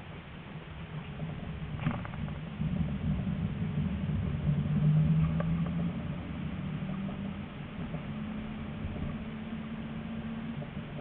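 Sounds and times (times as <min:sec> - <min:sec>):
low steady tone: 0:00.0 - 0:11.0
tram motor and wheels humming: 0:00.0 - 0:11.0.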